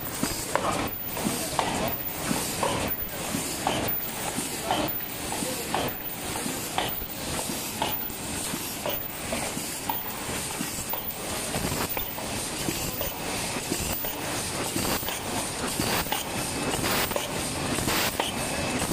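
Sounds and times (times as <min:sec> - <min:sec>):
machine clattering: 0:00.0 - 0:18.9.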